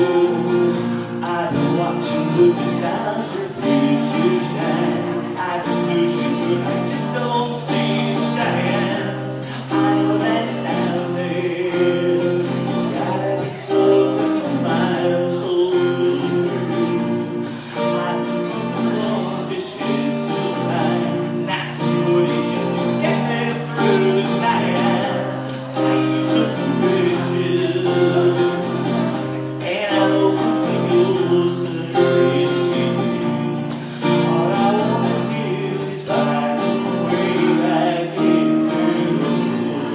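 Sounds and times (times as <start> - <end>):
guitar: 0.0 - 39.9
person singing: 0.0 - 39.9.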